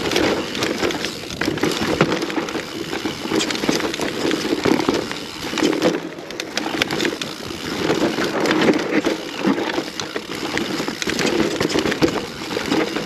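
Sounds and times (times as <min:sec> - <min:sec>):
bike clicking and rattling: 0:00.0 - 0:13.0
bike tyres rumbling on dirt: 0:00.0 - 0:13.0.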